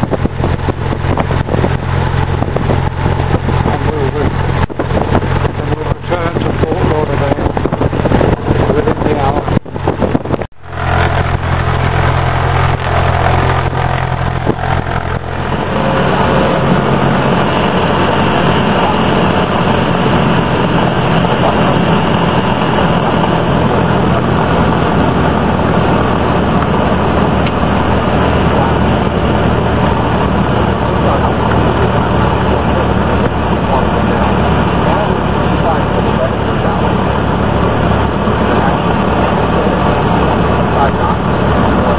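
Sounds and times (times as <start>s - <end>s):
airplane engine droning in cabin: 0.0s - 41.9s.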